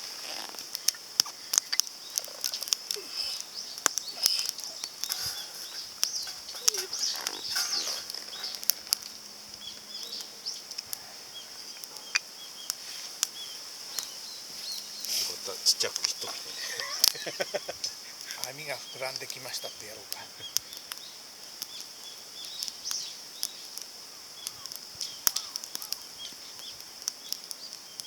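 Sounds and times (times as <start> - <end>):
fire crackling and popping: 0.0 - 28.0
fire hissing: 0.0 - 28.0.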